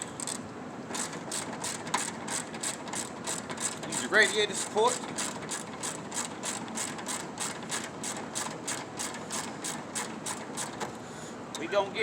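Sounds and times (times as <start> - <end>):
ratchet wrench clicking: 0.0 - 0.4, 1.0 - 10.8.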